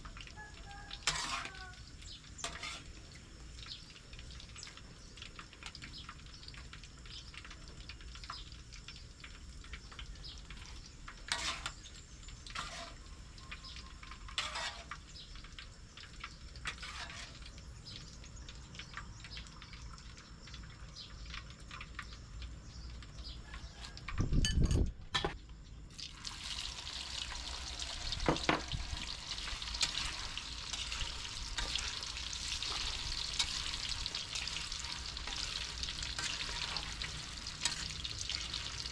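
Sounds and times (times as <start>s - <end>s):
food sizzling in hot oil: 0.0s - 24.1s, 25.6s - 38.9s.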